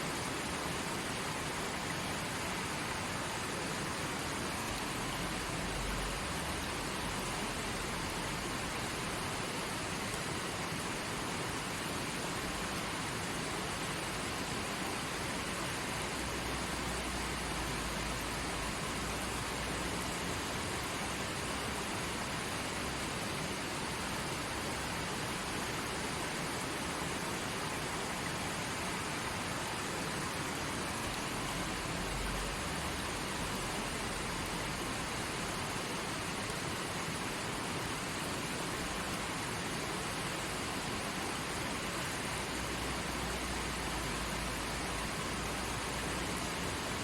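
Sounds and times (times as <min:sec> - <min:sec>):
creek water flowing over rocks: 0:00.0 - 0:47.0.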